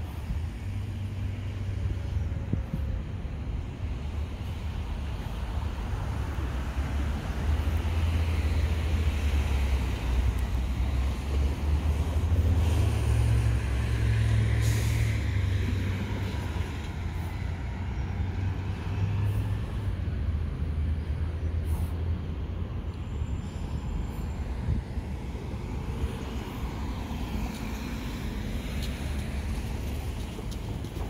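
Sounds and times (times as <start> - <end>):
road vehicles passing: 0.0 - 31.0.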